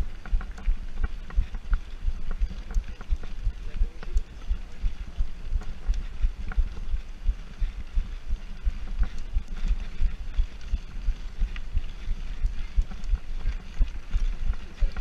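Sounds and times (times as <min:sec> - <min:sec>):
bike rattling: 0:00.0 - 0:15.0
bike thudding over bumps: 0:00.0 - 0:15.0.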